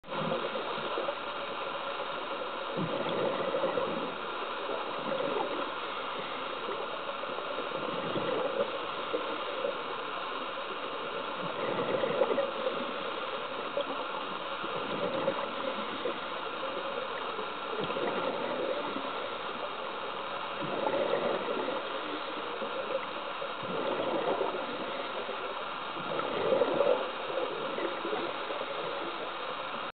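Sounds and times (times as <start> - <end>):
exhaled air bubbling: 0.0 - 29.9.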